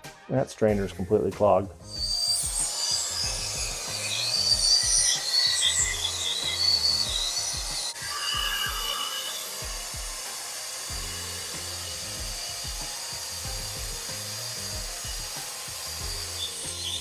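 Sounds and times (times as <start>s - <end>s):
background music with beat: 0.0s - 17.0s
steady hiss: 1.8s - 17.0s.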